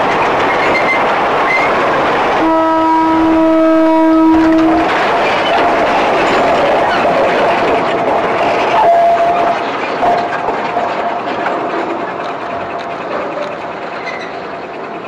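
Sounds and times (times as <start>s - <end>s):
diesel locomotive: 0.0s - 15.0s
wheel squealing on rail: 0.0s - 15.0s
wheels clattering on rails: 0.0s - 15.0s.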